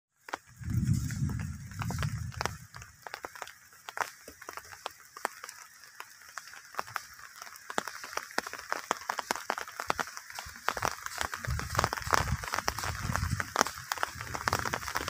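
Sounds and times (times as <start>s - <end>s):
scattered clicks and crackles: 0.2s - 15.0s.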